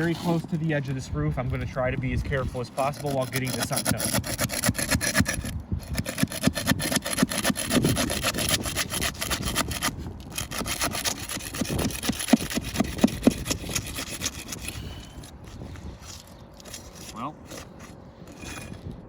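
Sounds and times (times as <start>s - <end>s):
metal bar scraping shingles: 2.5s - 19.0s.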